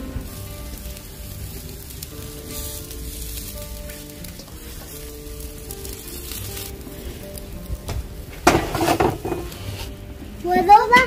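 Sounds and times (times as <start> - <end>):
fish sizzling on grill: 0.0 - 11.0
soft background music: 0.0 - 11.0.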